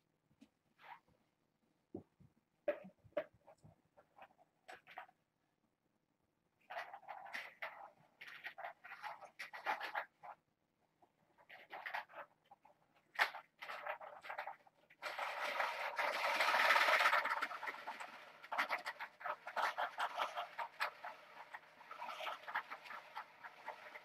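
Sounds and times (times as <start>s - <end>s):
balls rattling in plastic tracks: 2.6s - 5.2s, 6.6s - 24.0s.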